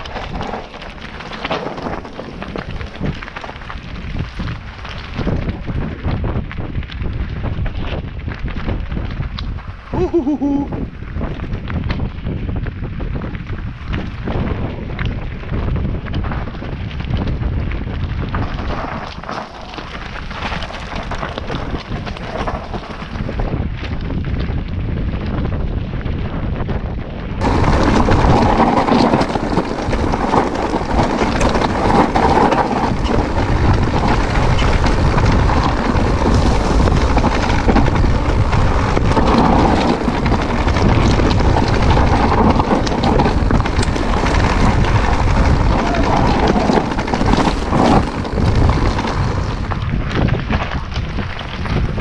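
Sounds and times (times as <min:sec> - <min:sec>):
bike rattling on rocky trail: 0:00.0 - 0:52.0
wind buffeting microphone: 0:00.0 - 0:52.0.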